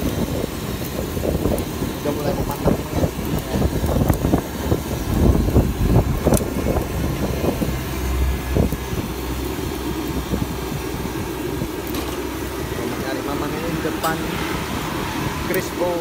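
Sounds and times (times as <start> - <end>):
food bubbling in hot oil: 0.0 - 16.0
street traffic rumble: 0.0 - 16.0.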